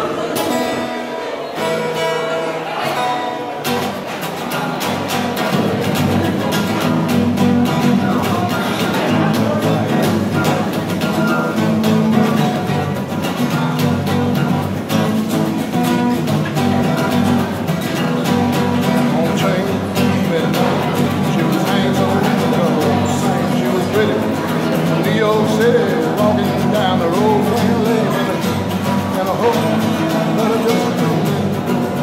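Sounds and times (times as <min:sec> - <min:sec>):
acoustic guitar strummed hard: 0:00.0 - 0:32.0.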